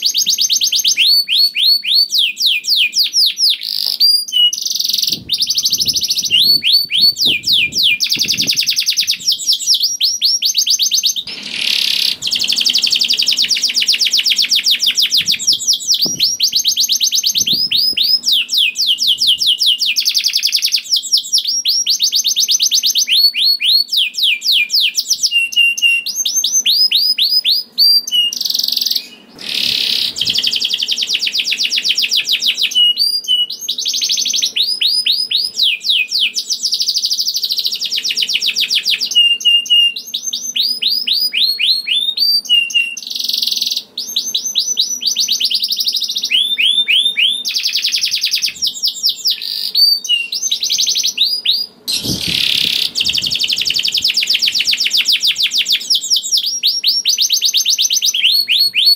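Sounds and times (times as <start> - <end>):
canary singing trills: 0.0 - 58.9.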